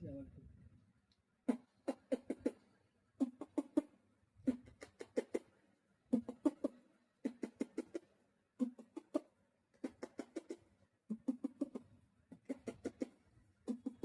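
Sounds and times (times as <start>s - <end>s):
mouth popping sound effects: 1.5s - 2.6s, 3.2s - 5.5s, 6.1s - 14.0s.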